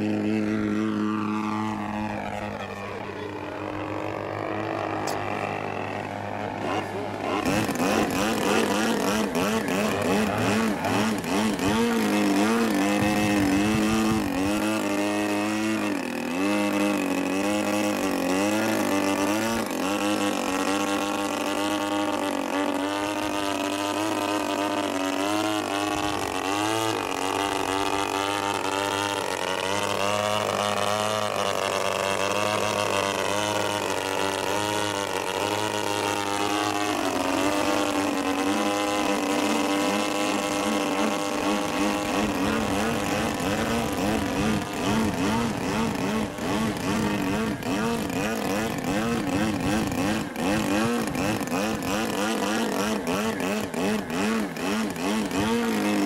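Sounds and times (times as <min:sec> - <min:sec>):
model plane engine in flight: 0:00.0 - 0:56.0.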